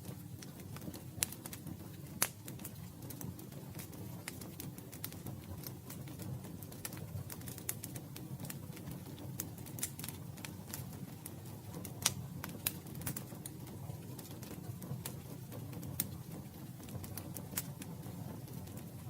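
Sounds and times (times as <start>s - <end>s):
campfire flames rumbling: 0.0s - 19.0s
fire crackling and popping: 0.0s - 19.0s.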